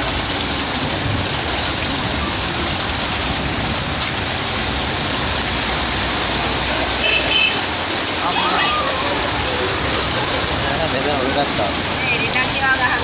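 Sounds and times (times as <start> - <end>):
rushing flood water: 0.0 - 13.0.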